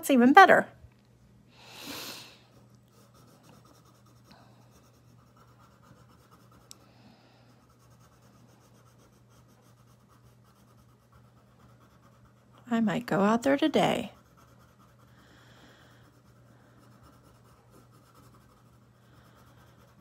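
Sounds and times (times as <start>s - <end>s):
steady low hum: 0.0s - 20.0s
pencil scratching on paper: 2.5s - 6.7s, 7.4s - 20.0s.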